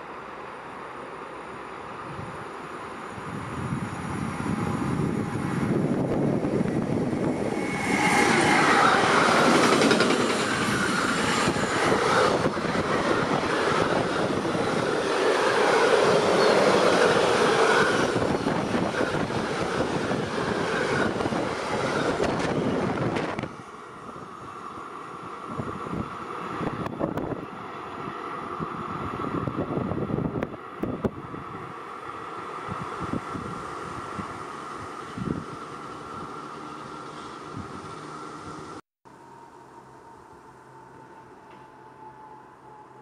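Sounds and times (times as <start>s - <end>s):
freight train passing: 0.0s - 43.0s.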